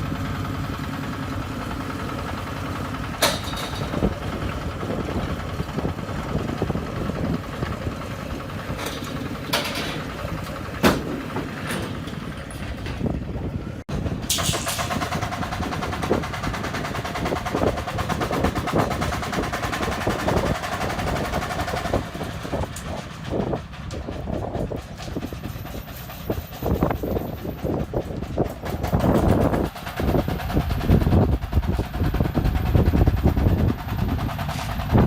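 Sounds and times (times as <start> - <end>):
concrete mixer engine chugging: 0.0 - 35.0
metallic rattling and knocks: 2.9 - 13.3, 13.9 - 35.0.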